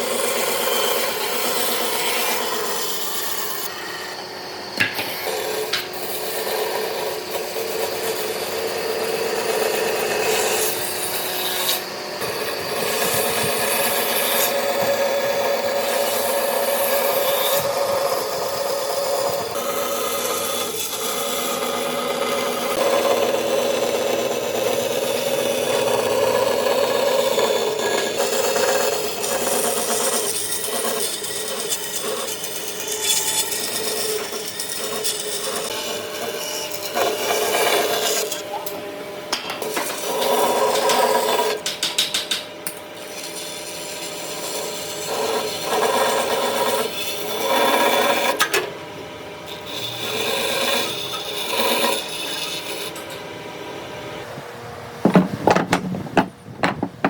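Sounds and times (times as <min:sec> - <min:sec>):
tool scraping wood: 0:00.0 - 0:04.2, 0:04.8 - 0:38.6, 0:39.6 - 0:48.6, 0:49.5 - 0:53.3, 0:55.0 - 0:57.0.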